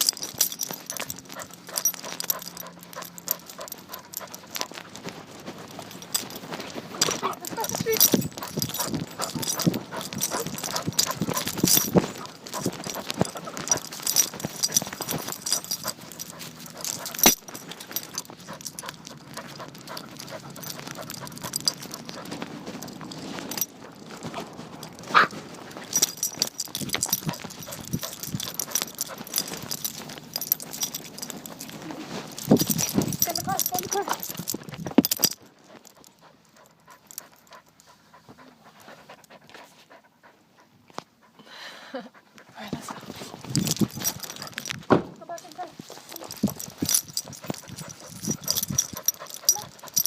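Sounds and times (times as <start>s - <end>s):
rubbing against microphone: 0.0s - 36.4s, 42.6s - 50.0s.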